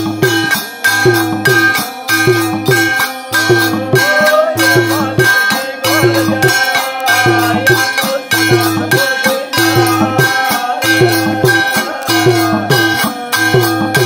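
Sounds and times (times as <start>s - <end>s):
hand drums beating: 0.0s - 14.0s
man singing: 1.9s - 14.0s.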